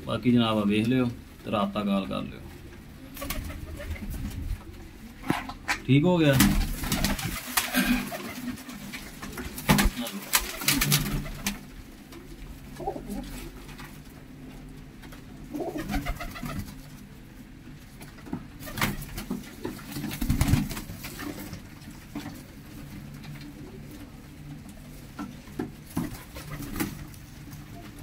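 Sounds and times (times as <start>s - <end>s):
pigeons cooing: 2.4s - 5.9s, 6.5s - 17.7s, 18.5s - 28.0s
wing flaps and flutters: 2.6s - 17.1s, 17.9s - 28.0s.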